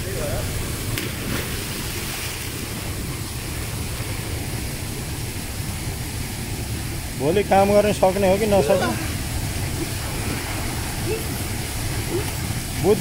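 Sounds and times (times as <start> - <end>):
waterfall rushing into pool: 0.0 - 13.0.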